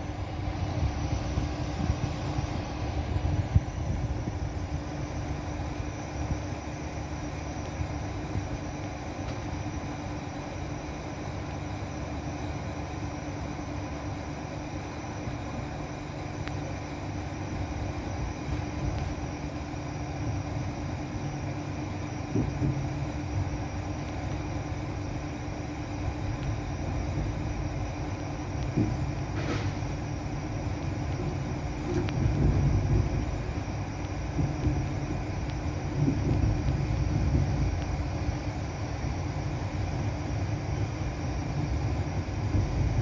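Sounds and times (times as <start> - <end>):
train rumble: 0.0 - 43.0.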